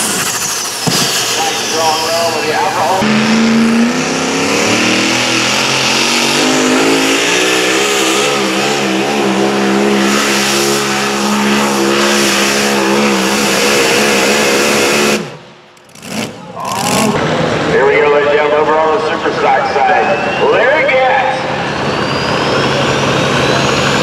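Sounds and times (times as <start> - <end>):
tractor engine at high revs: 0.0 - 19.6, 20.5 - 24.0.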